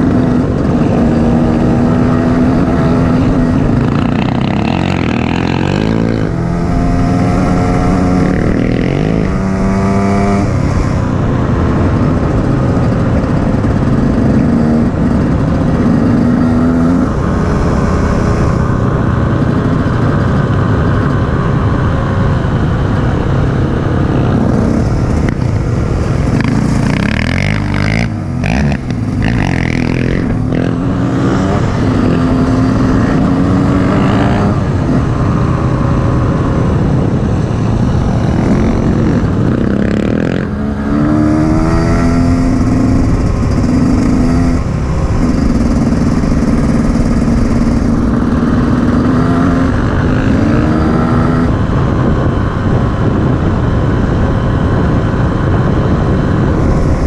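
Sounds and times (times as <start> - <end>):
dirt bike engine revving: 0.0 - 11.0, 11.7 - 20.3, 24.1 - 51.6.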